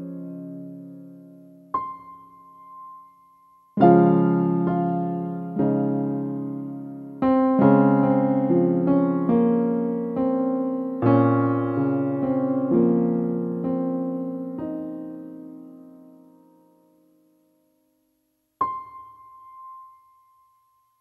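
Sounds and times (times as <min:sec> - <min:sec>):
solo piano: 0:00.0 - 0:21.0.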